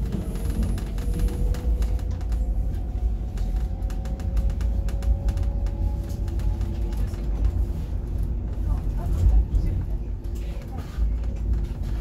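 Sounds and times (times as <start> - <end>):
train low rumble: 0.0 - 12.0
wheels clicking on rails: 0.0 - 12.0.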